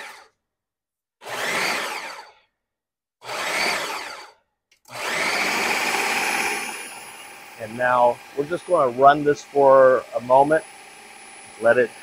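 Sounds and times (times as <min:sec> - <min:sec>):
food processor motor: 0:00.0 - 0:00.4, 0:01.2 - 0:02.5, 0:03.2 - 0:12.0.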